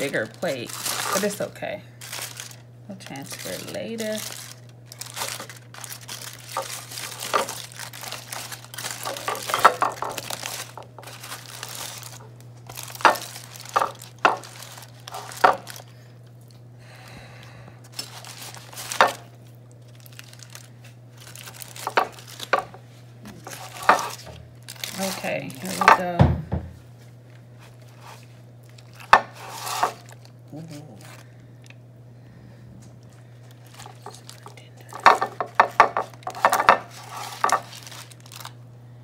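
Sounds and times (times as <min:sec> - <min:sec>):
aluminium foil crinkling: 0:00.0 - 0:16.6, 0:17.8 - 0:26.2, 0:27.3 - 0:31.8, 0:33.0 - 0:38.6
steady low hum: 0:00.0 - 0:39.0.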